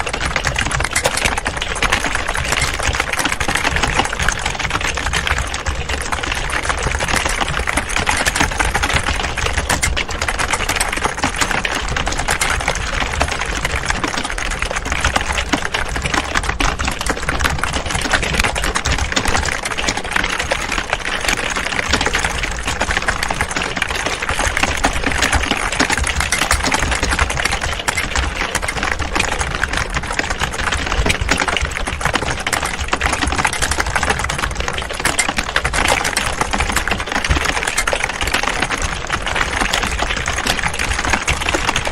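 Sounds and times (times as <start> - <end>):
many keyboards typing: 0.0 - 41.9.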